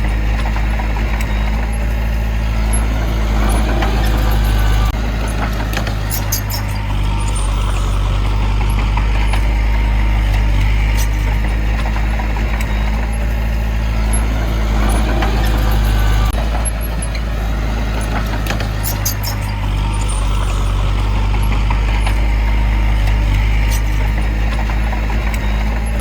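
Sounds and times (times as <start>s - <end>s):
heavy diesel engine humming: 0.0s - 26.0s.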